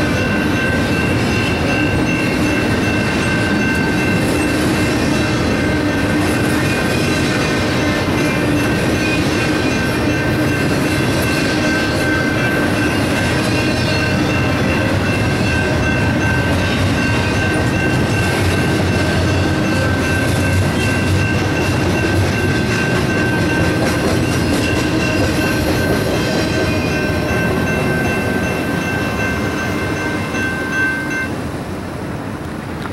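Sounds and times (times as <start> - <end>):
crossing bells ringing: 0.0 - 31.7
freight train rolling on rails: 0.0 - 32.9.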